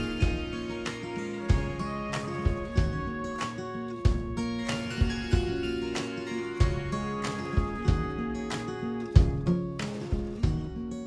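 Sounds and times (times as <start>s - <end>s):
held notes over drum beat: 0.0s - 11.0s.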